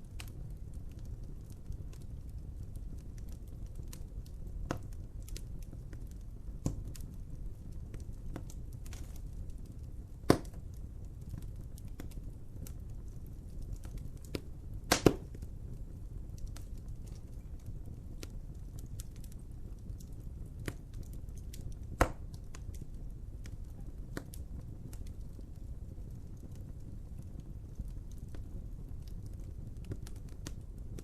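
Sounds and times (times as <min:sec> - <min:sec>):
fire popping: 0:00.0 - 0:31.0
wood fire crackling: 0:00.0 - 0:31.0.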